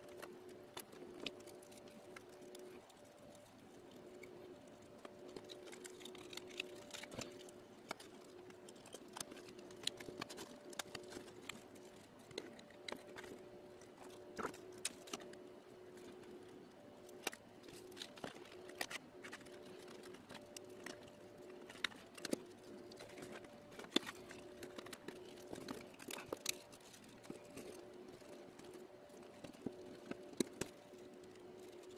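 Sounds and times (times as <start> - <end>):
faint two-tone hum: 0.0 - 31.9.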